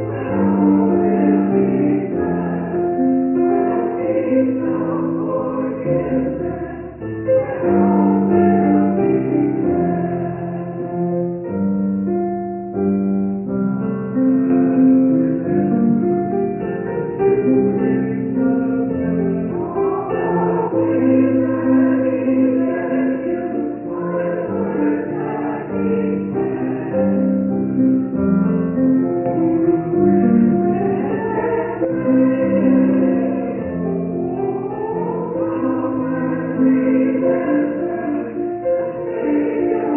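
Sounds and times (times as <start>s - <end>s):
choir singing: 0.0s - 11.6s, 14.2s - 39.9s.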